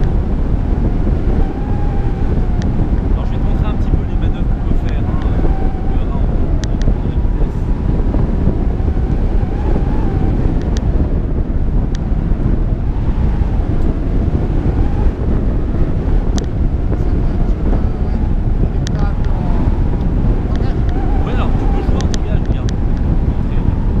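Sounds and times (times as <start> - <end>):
airflow buffeting microphone: 0.0 - 24.0.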